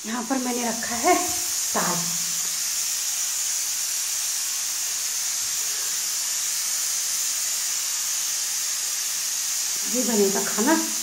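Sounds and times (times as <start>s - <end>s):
pressure cooker steam hiss: 0.0s - 11.0s.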